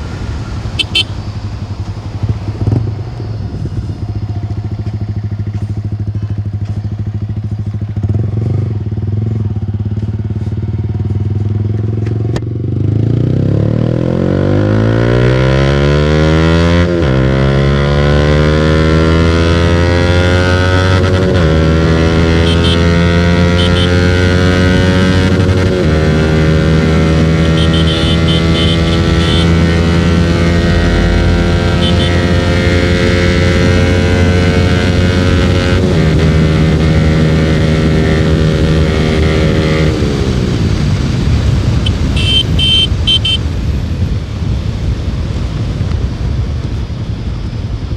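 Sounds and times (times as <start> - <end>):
motorcycle idling and accelerating: 0.0 - 47.9.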